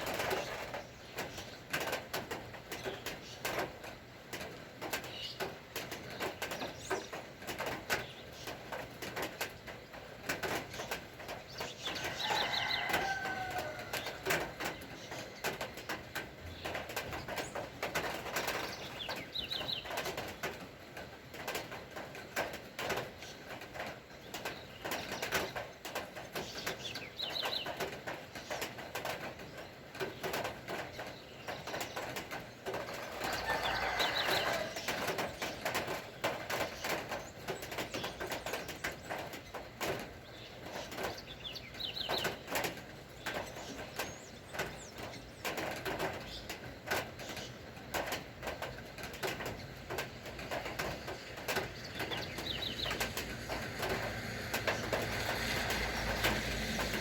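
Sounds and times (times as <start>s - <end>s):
rain dripping and tapping: 0.0s - 57.0s
birds chirping: 4.9s - 20.5s, 23.2s - 46.6s, 48.9s - 56.9s.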